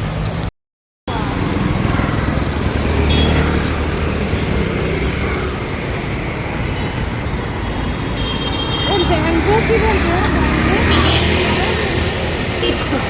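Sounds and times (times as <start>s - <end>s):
road traffic passing: 0.0s - 0.5s, 1.1s - 13.0s
heavy vehicle rumble: 1.1s - 13.0s.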